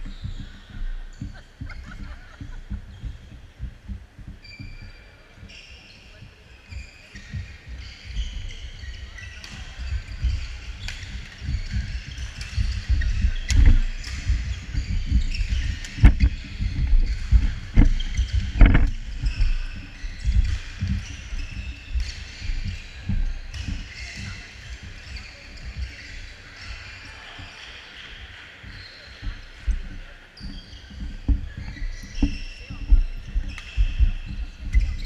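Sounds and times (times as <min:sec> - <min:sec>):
footsteps on hardwood court: 0:00.0 - 0:26.5, 0:28.6 - 0:35.0
gymnasium noise: 0:00.0 - 0:35.0.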